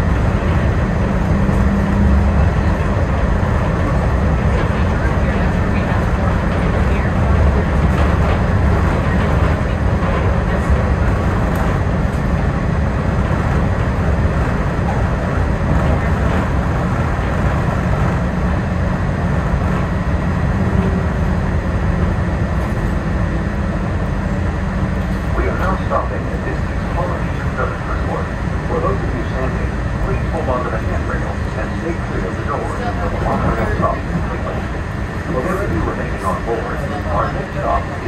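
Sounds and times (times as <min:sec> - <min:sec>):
monorail rumble: 0:00.0 - 0:38.0.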